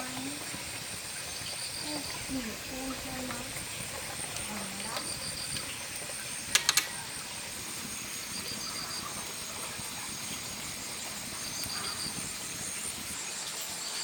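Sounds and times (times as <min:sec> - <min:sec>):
pulsed insect trill: 0:00.0 - 0:09.5, 0:10.2 - 0:14.0.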